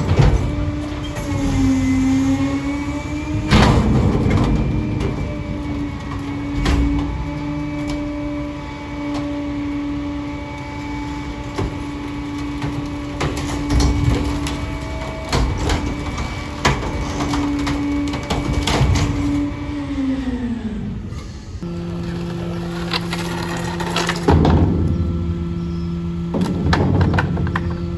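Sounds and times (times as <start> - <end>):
items cracking in hopper: 0.0 - 19.6, 21.8 - 25.1
garbage truck hydraulic hum: 0.0 - 27.9.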